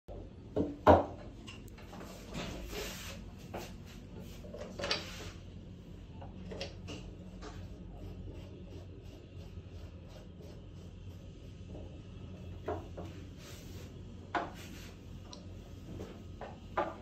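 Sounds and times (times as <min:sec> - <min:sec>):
low steady hum: 0:00.1 - 0:17.0.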